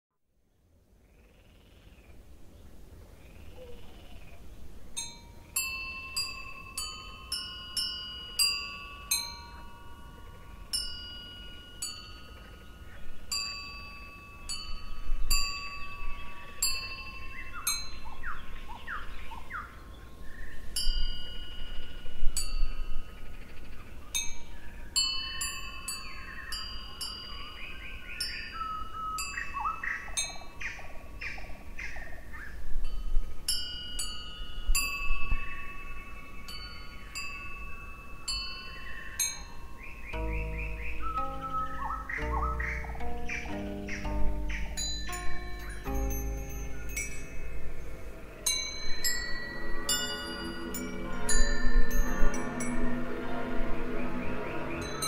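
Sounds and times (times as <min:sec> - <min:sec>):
metal chimes ringing: 0:05.0 - 0:19.2, 0:20.8 - 0:30.6, 0:32.8 - 0:54.0, 0:54.6 - 0:55.0.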